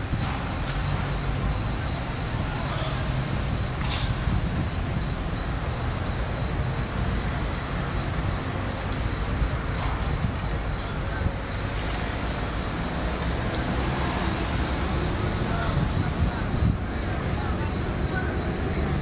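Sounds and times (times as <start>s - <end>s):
locomotive engine rumbling: 0.0s - 19.0s
insects trilling: 0.2s - 19.0s.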